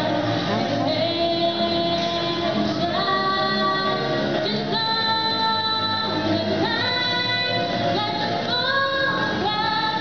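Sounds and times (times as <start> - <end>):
backing track music: 0.0 - 10.0
girl singing pop song: 0.0 - 10.0.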